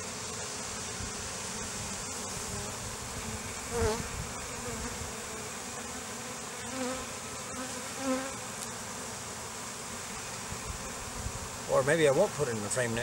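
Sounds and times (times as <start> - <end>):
bee buzzing close past: 0.0 - 13.0
bees humming: 0.0 - 13.0.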